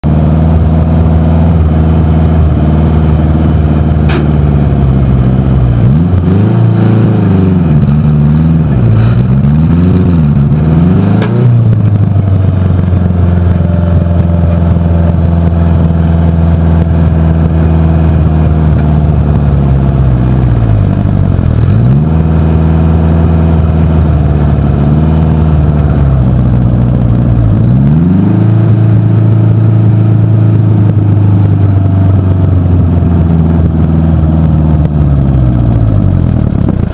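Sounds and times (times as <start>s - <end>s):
tractor engine revving: 0.0s - 36.9s.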